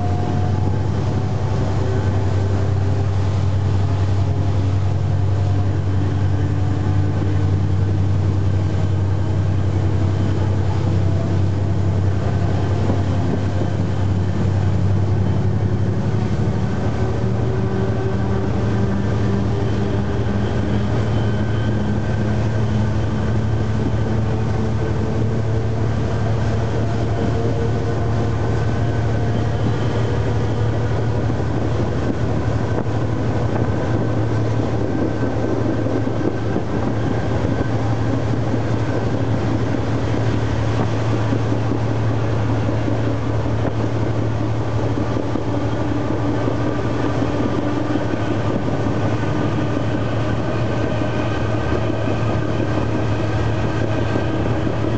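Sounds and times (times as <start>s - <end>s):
diesel locomotive engine droning: 0.0s - 54.9s
train rolling on rails: 0.0s - 54.9s.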